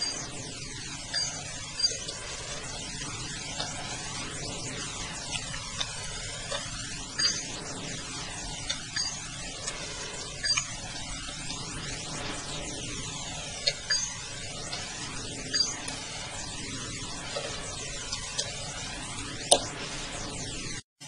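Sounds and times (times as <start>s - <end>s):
static hiss: 0.0s - 20.8s.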